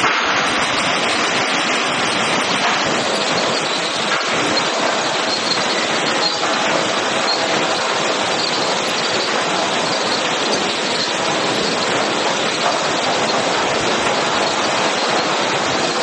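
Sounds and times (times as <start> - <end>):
lumber-handling machinery din: 0.0 - 16.0.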